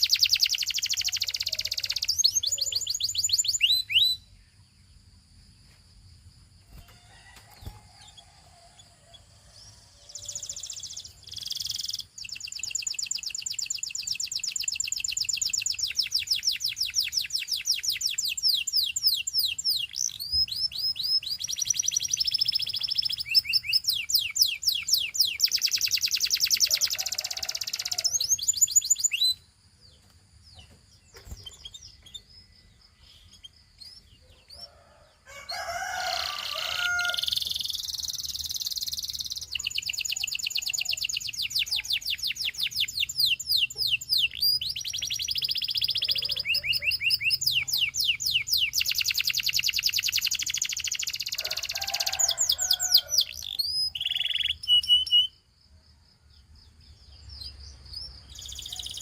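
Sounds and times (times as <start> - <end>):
canary singing trills: 0.0 - 5.2, 6.6 - 55.5, 56.4 - 59.0.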